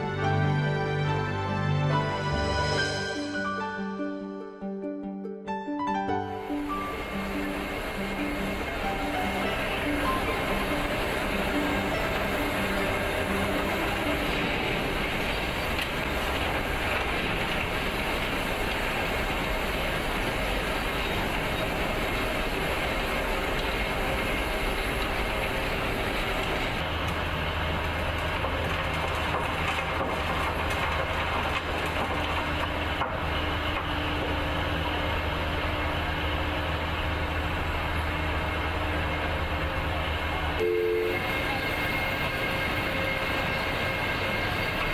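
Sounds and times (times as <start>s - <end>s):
diesel machine engine hum: 6.2s - 44.9s.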